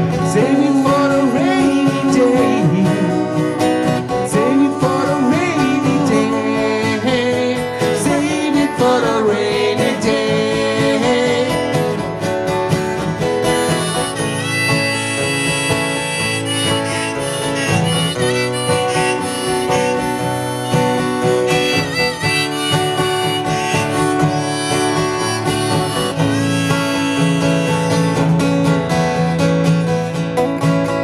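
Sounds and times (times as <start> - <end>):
harmonica melody: 0.0 - 30.8
strummed acoustic guitar: 0.0 - 31.0.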